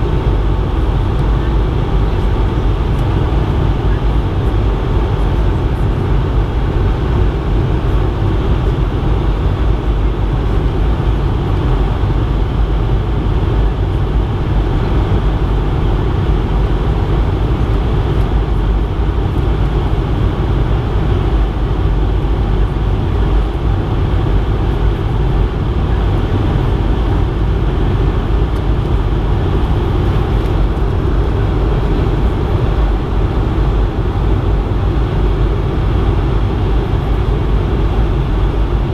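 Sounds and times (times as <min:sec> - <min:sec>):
airflow and jet engine rush: 0:00.0 - 0:38.9
deep rumble: 0:00.0 - 0:38.9
faint steady hum: 0:00.0 - 0:38.9.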